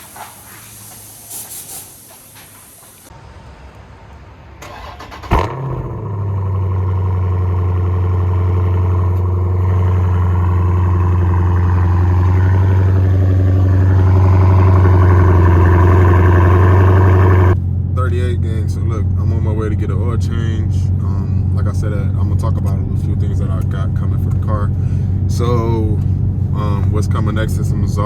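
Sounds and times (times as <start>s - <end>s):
car engine starting: 4.6s - 28.0s
loud engine idling: 5.5s - 28.0s.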